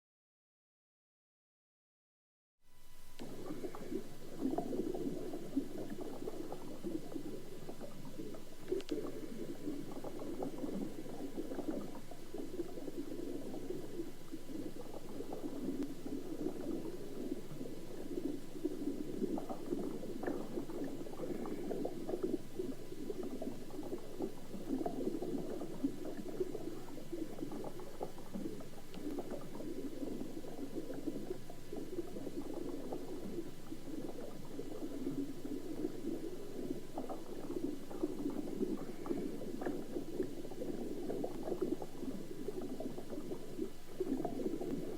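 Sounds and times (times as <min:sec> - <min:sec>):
underwater bubbling: 0:02.8 - 0:44.9
underwater crackles and clicks: 0:02.8 - 0:44.9.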